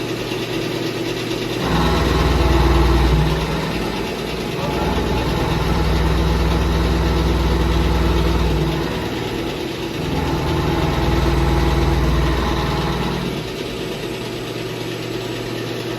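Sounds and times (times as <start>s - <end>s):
milling machine humming: 1.4s - 15.9s.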